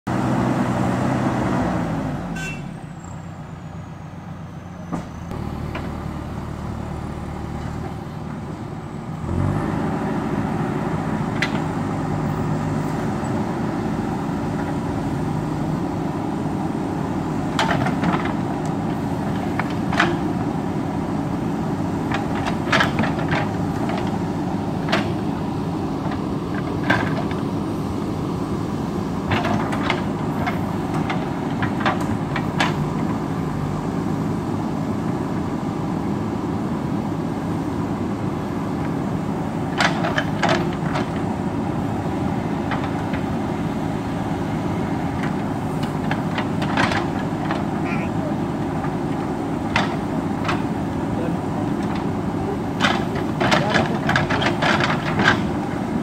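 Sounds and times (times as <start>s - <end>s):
diesel engine running: 0.1s - 56.0s.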